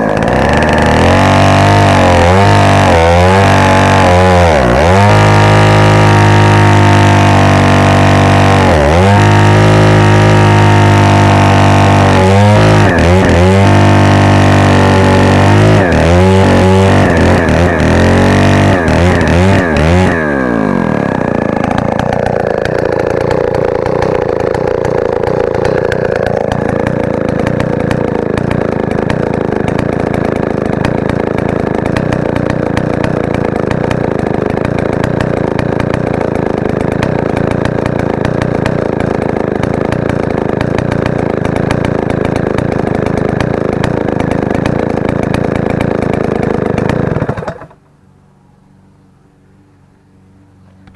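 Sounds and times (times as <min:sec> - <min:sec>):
chainsaw engine revving and idling: 0:00.0 - 0:47.9.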